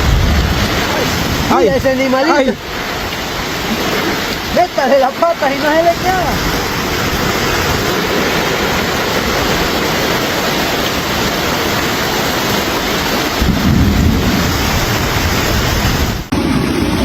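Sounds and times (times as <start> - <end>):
wind buffeting microphone: 0.0 - 4.5, 5.7 - 11.8, 12.6 - 17.0
heavy rain falling: 0.0 - 17.0.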